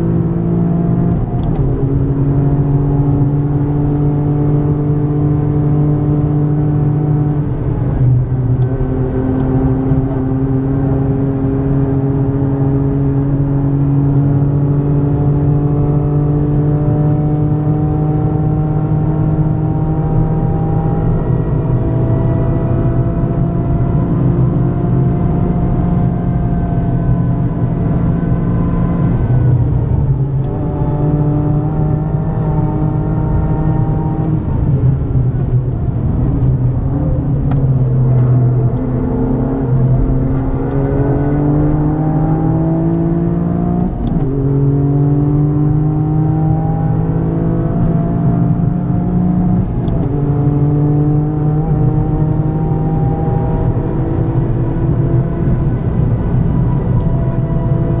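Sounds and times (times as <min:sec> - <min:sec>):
car engine accelerating: 0:00.0 - 0:58.0
road noise: 0:00.0 - 0:58.0.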